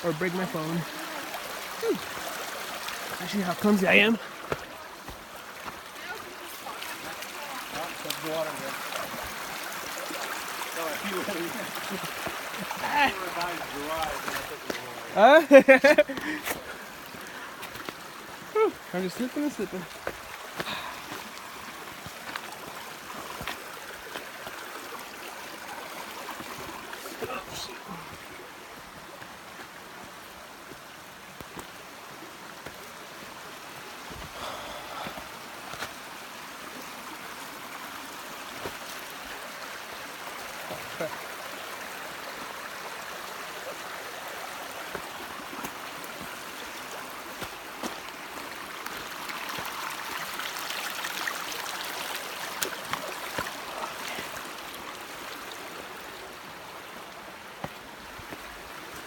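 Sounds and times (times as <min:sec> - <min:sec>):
creek water over rocks: 0:00.0 - 0:59.0.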